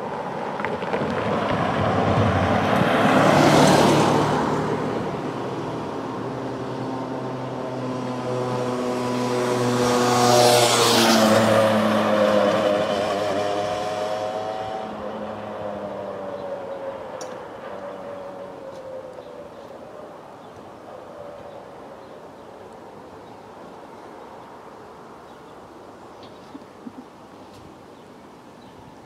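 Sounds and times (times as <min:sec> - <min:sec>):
vehicle passing: 0:00.0 - 0:26.0
traffic: 0:00.0 - 0:29.0.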